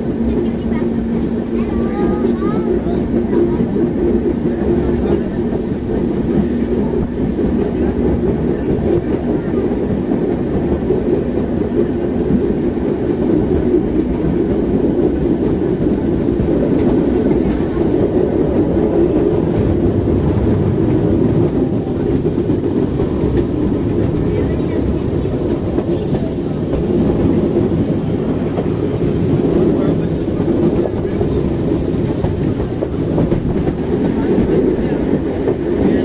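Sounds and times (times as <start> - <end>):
tram rumbling on rails: 0.0 - 36.0.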